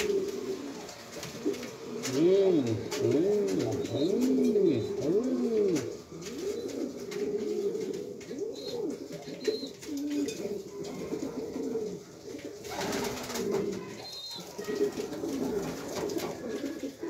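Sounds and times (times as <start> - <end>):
pigeon cooing: 0.0 - 17.0.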